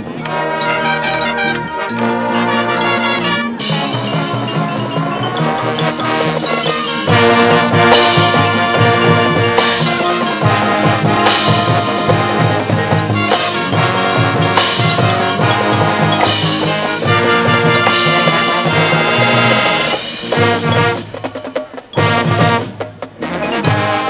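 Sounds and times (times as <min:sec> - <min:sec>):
drumline percussion hits: 0:00.0 - 0:24.0
marching band brass: 0:00.0 - 0:24.0.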